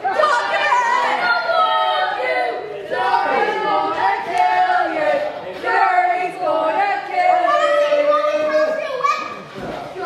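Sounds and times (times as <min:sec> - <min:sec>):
crowd chanting and shouting: 0:00.0 - 0:10.0.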